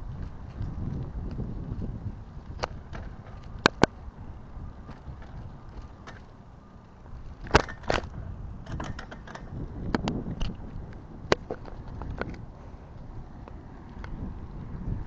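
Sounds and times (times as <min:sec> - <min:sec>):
bicycle clicks and rattles: 0:00.0 - 0:15.0
tyres and wind rumbling: 0:00.0 - 0:15.0.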